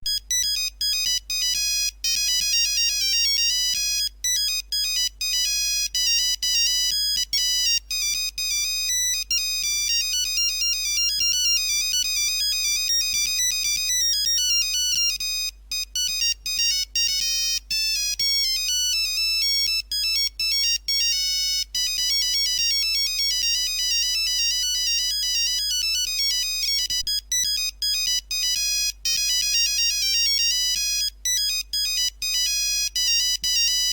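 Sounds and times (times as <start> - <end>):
mobile phone ringtone: 0.0 - 33.9.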